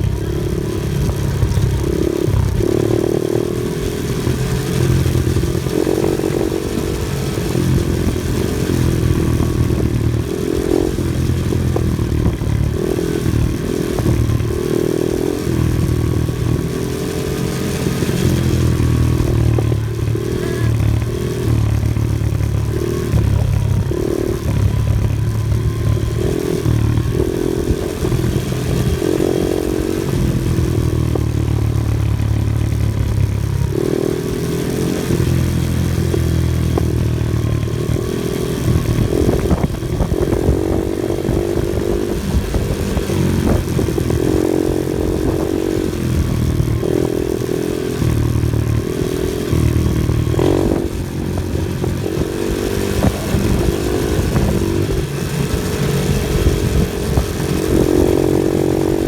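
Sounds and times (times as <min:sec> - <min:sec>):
knocks and clatter over rough ground: 0:00.0 - 0:59.0
off-road vehicle engine revving: 0:00.0 - 0:59.0.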